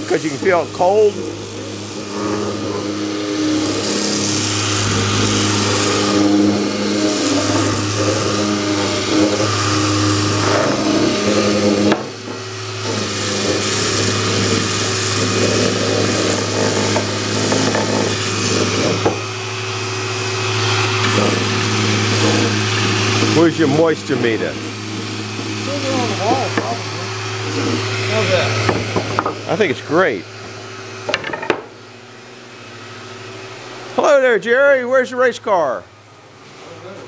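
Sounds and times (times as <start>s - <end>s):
orbital sander sanding wood: 0.0s - 34.2s
dust extractor humming: 0.0s - 37.0s.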